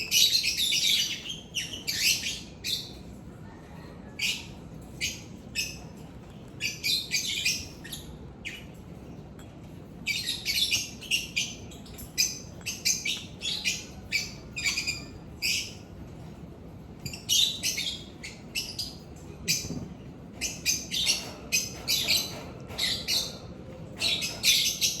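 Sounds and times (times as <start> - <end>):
lovebirds chirping: 0.0 - 3.2, 4.2 - 8.8, 10.0 - 15.9, 17.0 - 25.0.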